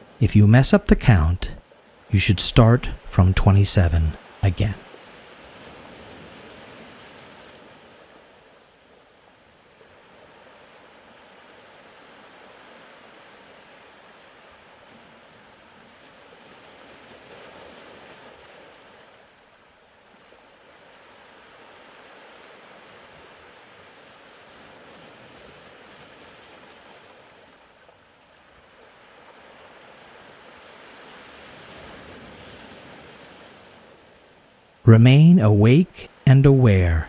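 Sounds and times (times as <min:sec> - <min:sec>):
faint ocean waves: 0:00.0 - 0:37.0.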